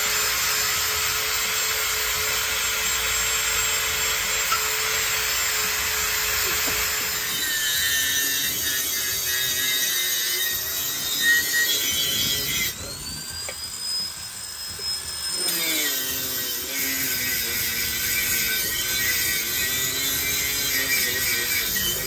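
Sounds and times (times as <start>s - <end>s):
grinder motor whine: 0.0s - 22.0s
wire brush grinding metal: 1.4s - 14.0s, 15.2s - 22.0s.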